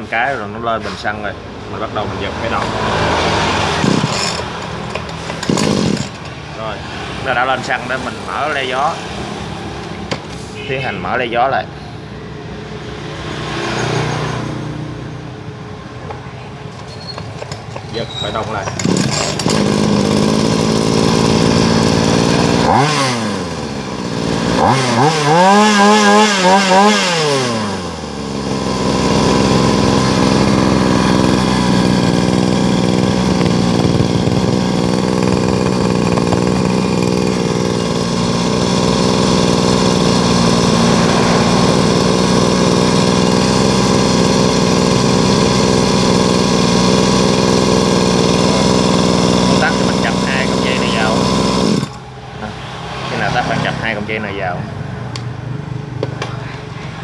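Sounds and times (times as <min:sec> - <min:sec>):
two-stroke engine revving: 0:00.2 - 0:11.6, 0:12.6 - 0:57.0.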